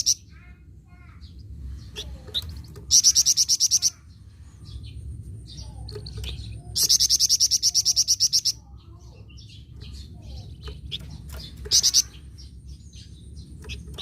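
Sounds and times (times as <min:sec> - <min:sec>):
soft bird chirps: 0:00.0 - 0:14.0
songbird chattering trills: 0:00.0 - 0:14.0.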